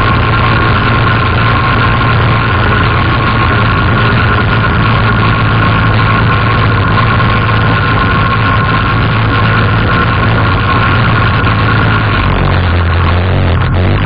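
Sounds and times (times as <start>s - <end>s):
quad engine droning: 0.0s - 14.0s.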